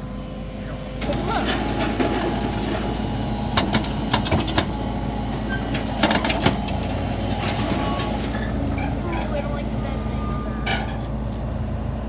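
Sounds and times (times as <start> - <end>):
heavy equipment engine running: 0.0 - 12.0.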